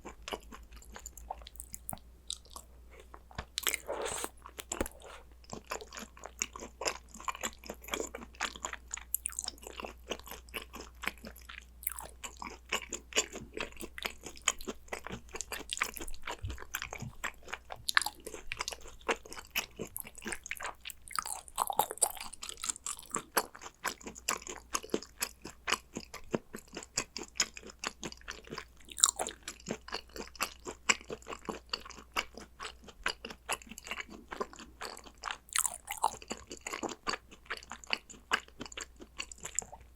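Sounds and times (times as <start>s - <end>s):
chewing and crunching raw beef: 0.0s - 39.9s.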